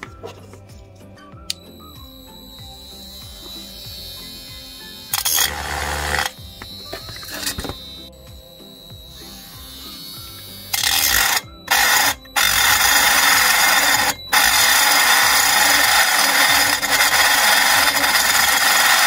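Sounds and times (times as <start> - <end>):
rotary tool grinding metal: 2.3 - 19.0.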